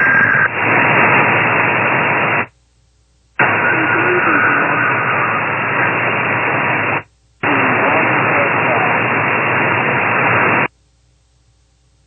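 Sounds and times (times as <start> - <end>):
radio static hiss: 0.0 - 2.6, 3.3 - 10.8.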